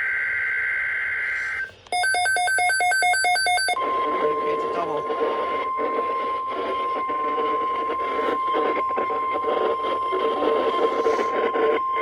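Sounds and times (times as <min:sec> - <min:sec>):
steady warning alarm tone: 0:01.9 - 0:12.0.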